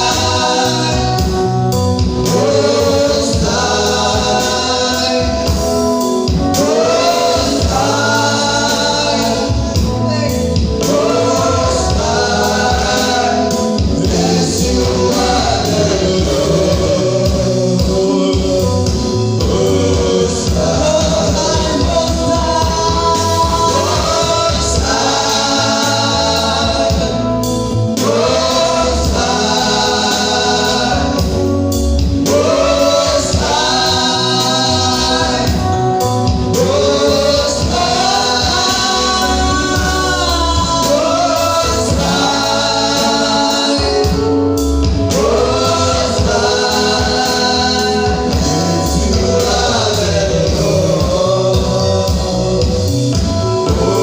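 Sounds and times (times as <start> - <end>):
choir singing: 0.0 - 10.0, 10.7 - 54.0
instrumental backing with bass: 0.0 - 54.0.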